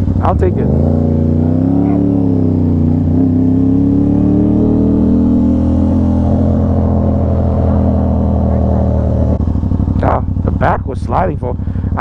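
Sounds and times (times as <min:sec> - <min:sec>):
motorcycle engine while riding: 0:00.0 - 0:12.0.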